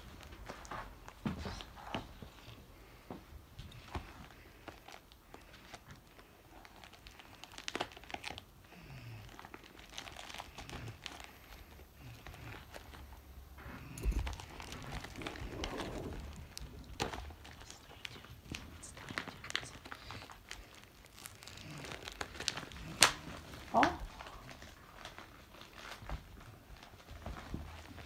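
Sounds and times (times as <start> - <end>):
packaging crinkling and tearing: 3.7 - 28.0.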